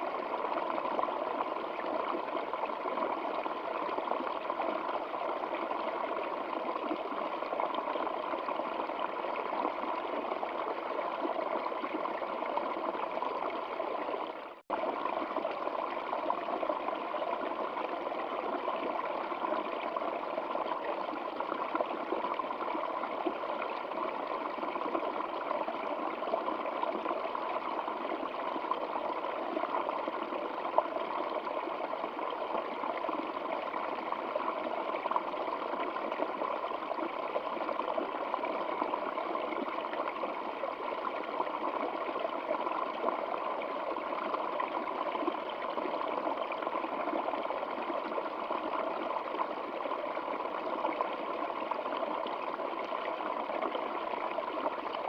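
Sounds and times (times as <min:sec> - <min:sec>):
stream water trickling: 0:00.0 - 0:55.0.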